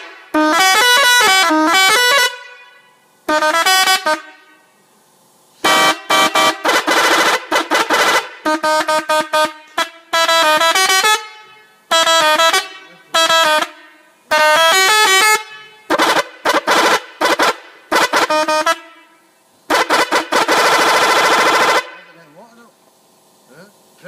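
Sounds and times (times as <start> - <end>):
musical air horn: 0.0 - 4.9, 5.6 - 22.3.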